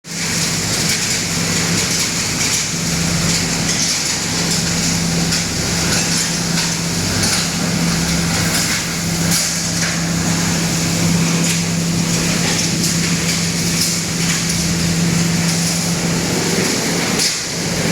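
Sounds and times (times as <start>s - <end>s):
pallet crusher motor humming: 0.5s - 17.9s.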